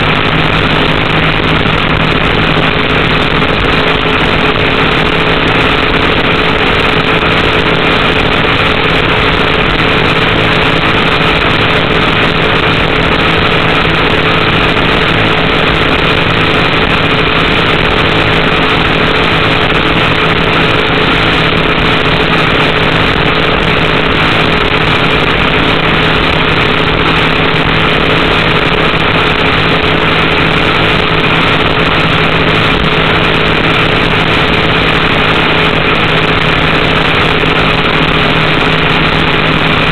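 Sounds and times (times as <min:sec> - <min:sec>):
boat engine running loud: 0:00.0 - 0:39.9
rush of wind and water: 0:00.0 - 0:39.9.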